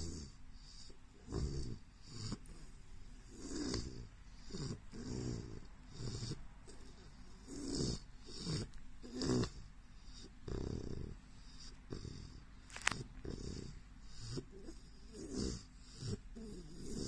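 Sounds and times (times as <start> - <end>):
puppy snoring: 0.0 - 17.0.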